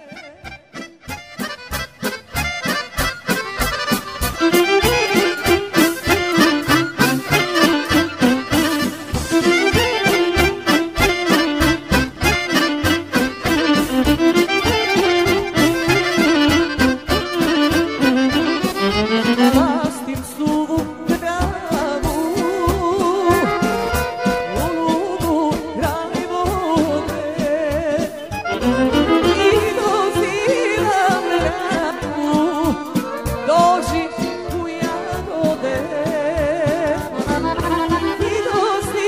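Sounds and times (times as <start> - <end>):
band playing steady beat: 0.0 - 39.0
fast accordion melody: 0.0 - 39.0.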